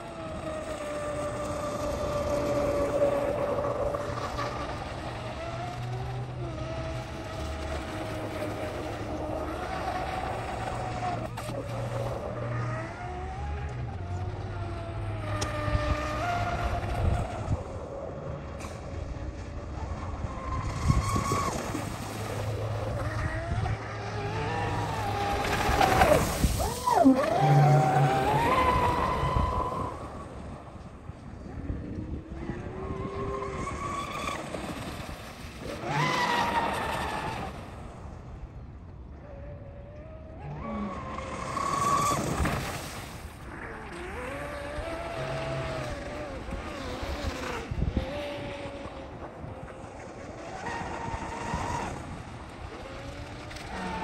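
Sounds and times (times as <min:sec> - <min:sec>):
electric boat motor whining: 0:00.0 - 0:54.0.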